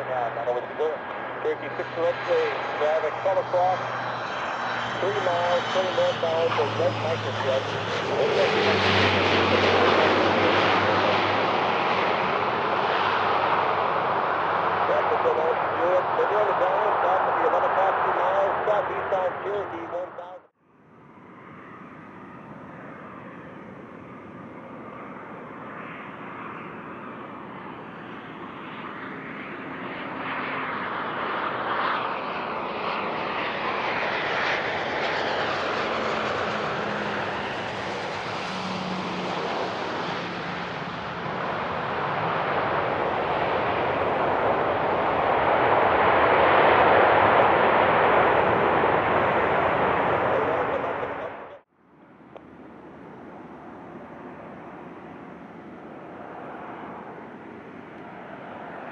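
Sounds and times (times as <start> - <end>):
jet engines roaring: 0.0 - 20.4, 21.1 - 58.9.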